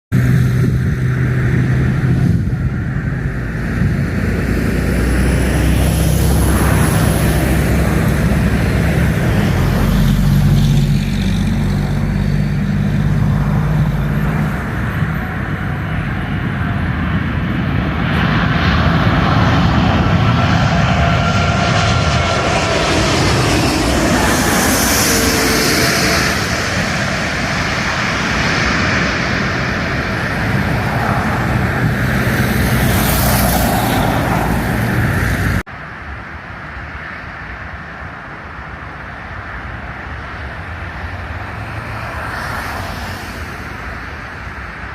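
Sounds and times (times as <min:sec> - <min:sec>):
jet engines droning: 0:00.1 - 0:44.9.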